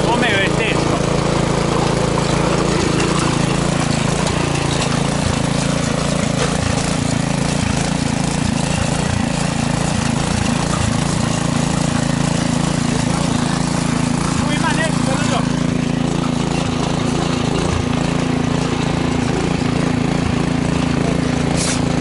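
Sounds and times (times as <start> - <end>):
petrol rotary tiller running: 0.0 - 22.0.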